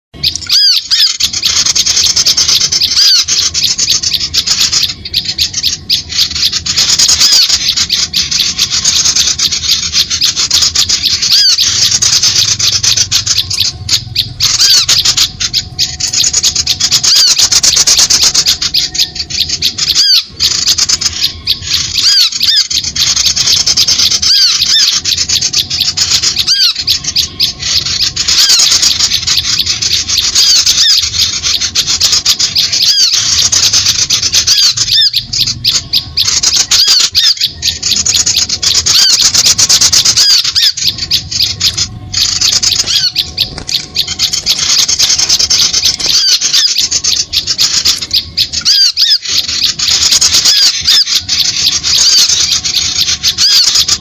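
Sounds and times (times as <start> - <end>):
rapid high ticking bird calls: 0.2 - 54.0.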